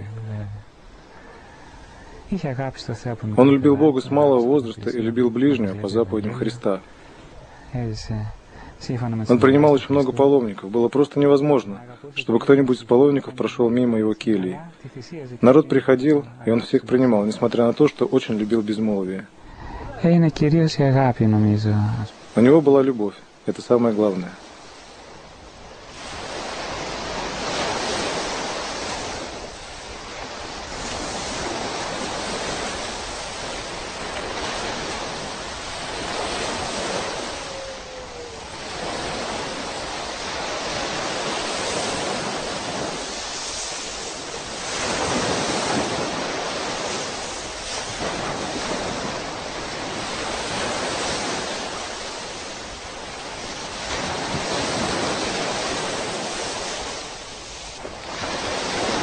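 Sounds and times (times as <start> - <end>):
sea waves washing in: 0.0 - 59.0.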